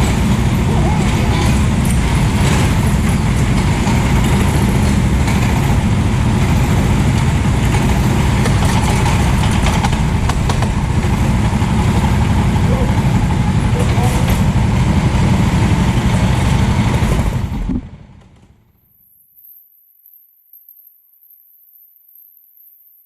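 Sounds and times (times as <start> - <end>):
go-kart engine running: 0.0 - 18.6.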